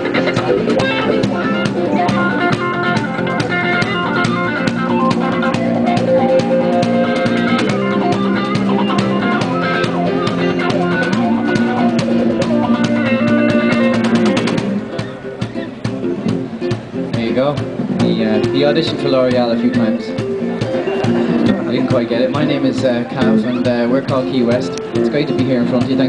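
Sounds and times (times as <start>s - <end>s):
acoustic guitars playing: 0.0s - 26.0s
hand drum beat: 0.0s - 26.0s.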